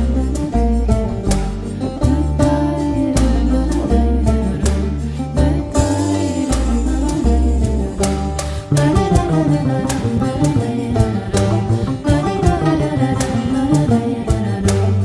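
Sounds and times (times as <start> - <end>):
deep sustained bass: 0.0 - 15.0
folk song on plucked strings: 0.0 - 15.0.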